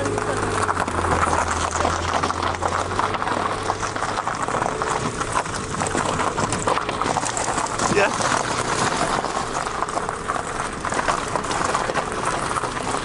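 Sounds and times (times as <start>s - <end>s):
tyres rolling over gravel: 0.0s - 13.0s.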